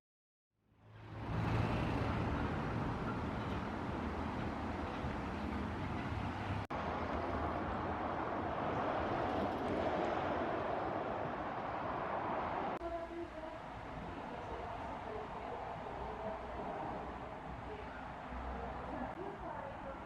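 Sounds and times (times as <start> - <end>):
traffic noise: 0.6 - 20.0.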